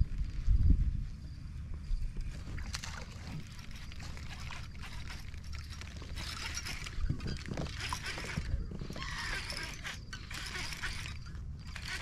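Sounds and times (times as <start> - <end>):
water lapping against hull: 2.2 - 12.0
water trickling: 2.3 - 12.0.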